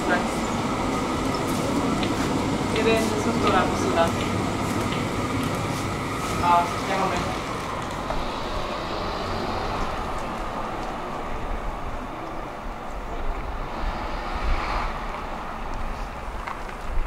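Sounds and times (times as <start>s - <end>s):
urban background rumble: 0.0s - 17.0s.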